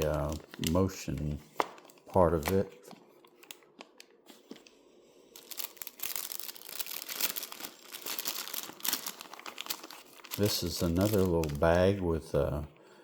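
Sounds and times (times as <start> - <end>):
packaging bag crinkling: 0.0 - 4.7, 5.3 - 12.0.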